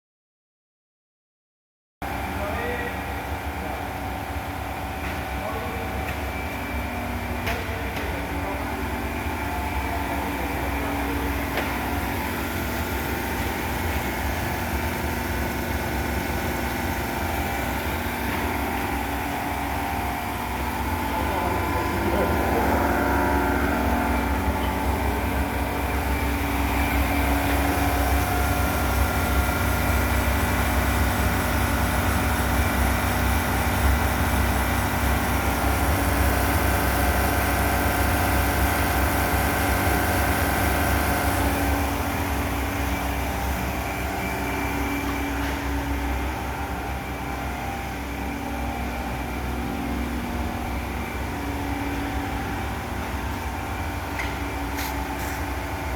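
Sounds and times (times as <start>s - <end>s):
ice machine humming: 2.6s - 55.9s.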